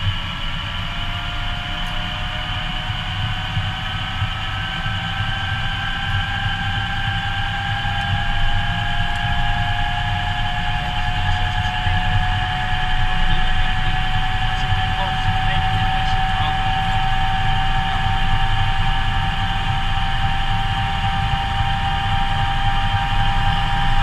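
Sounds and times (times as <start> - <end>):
helicopter engine whine: 0.0 - 24.0
helicopter rotor beat: 0.0 - 24.0.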